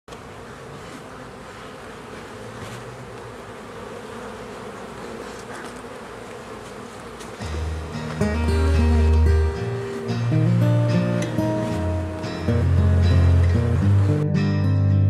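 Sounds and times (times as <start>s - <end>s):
honey bees buzzing: 0.1s - 15.0s.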